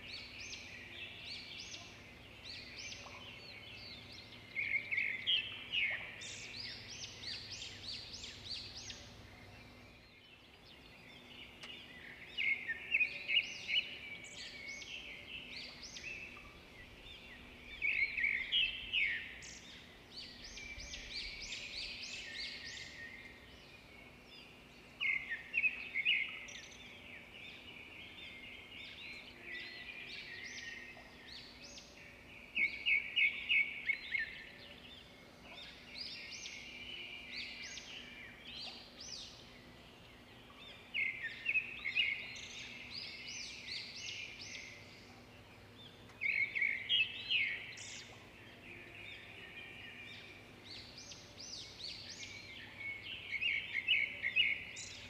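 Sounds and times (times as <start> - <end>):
birds chirping and singing: 0.0 - 55.0
steady background hiss: 0.0 - 55.0.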